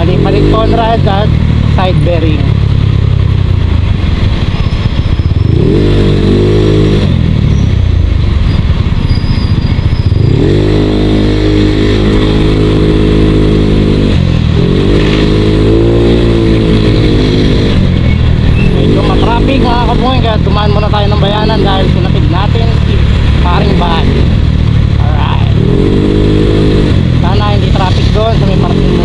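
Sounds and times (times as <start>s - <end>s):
scooter engine revving: 0.0s - 29.0s.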